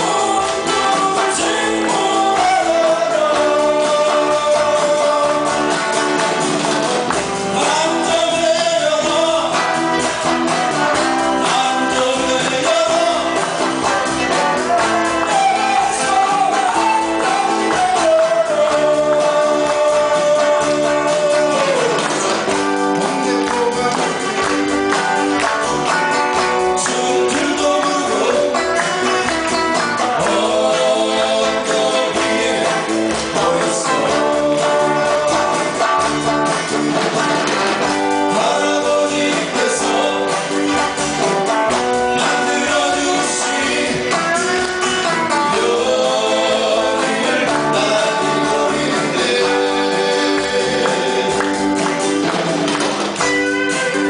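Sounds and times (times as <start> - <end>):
person singing: 0.0 - 6.2, 6.9 - 52.4
live band playing pop song: 0.0 - 54.0.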